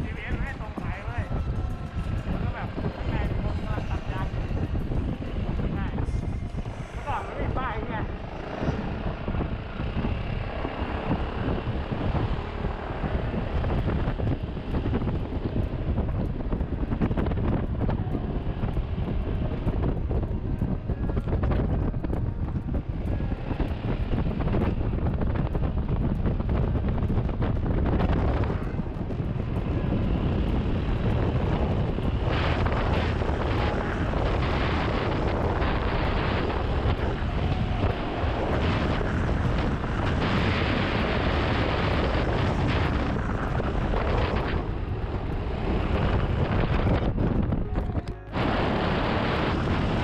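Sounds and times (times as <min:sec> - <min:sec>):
motorcycle engine: 0:00.0 - 0:50.0
road noise: 0:00.0 - 0:50.0
wind buffeting microphone: 0:00.0 - 0:50.0.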